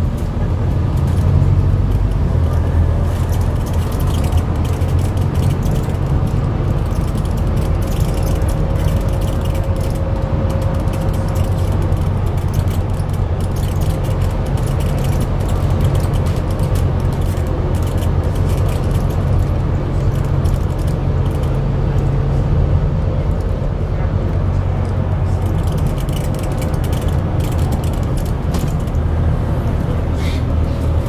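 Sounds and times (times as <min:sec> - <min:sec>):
bus diesel engine drone: 0:00.0 - 0:31.0
road noise: 0:00.0 - 0:31.0
bodywork rattling: 0:00.8 - 0:22.2, 0:25.2 - 0:29.9.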